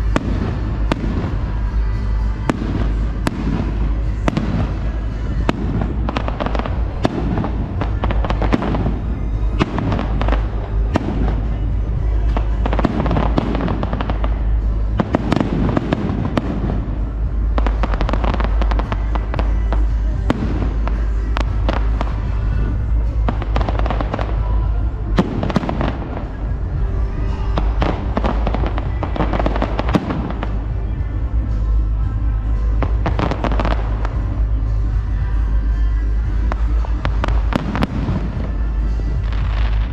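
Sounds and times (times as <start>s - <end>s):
fireworks bangs and crackling: 0.0s - 39.9s
low rumble: 0.0s - 39.9s
music: 0.0s - 39.9s.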